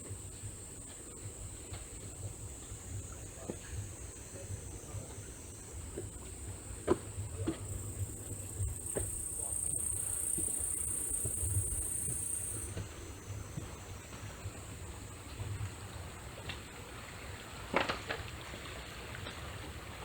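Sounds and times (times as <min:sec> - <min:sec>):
insects chirring: 0:00.0 - 0:16.2.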